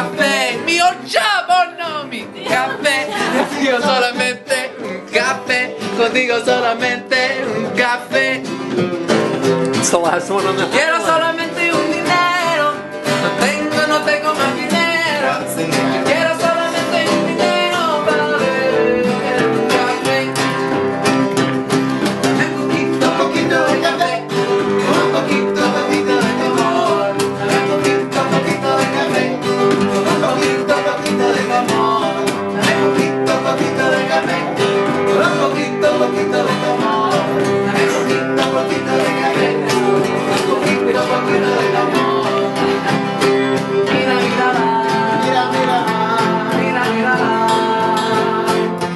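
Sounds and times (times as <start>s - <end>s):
acoustic guitars playing: 0.0s - 48.9s
voices singing: 0.0s - 48.9s.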